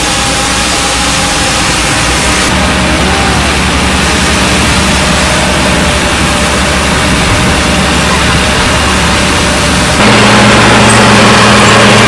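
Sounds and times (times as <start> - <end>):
heavy machinery engine pulsing: 0.0 - 12.0.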